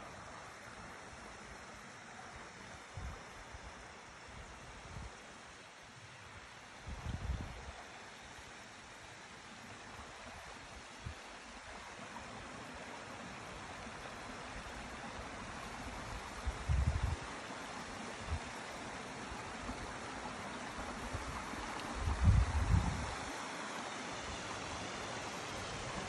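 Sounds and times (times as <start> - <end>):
stream rushing over rocks: 0.0 - 26.0.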